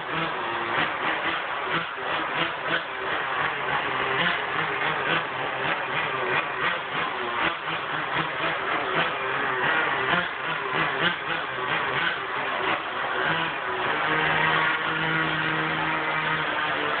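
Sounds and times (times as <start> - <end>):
rc car engine running: 0.0 - 17.0.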